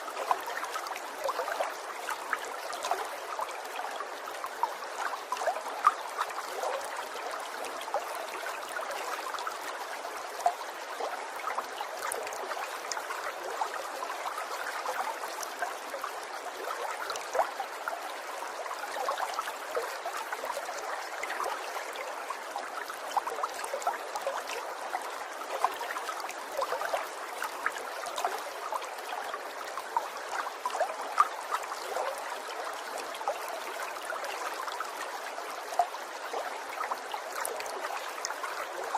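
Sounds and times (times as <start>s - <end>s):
stream of water trickling: 0.0s - 38.9s.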